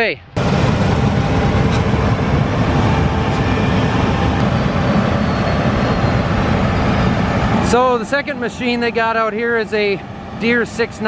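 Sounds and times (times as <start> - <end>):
combine harvester rumbling: 0.2 - 11.0.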